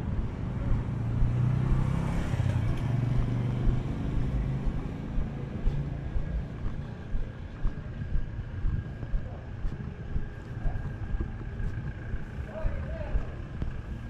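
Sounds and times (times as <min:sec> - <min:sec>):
vehicle engine passing: 0:00.0 - 0:14.0.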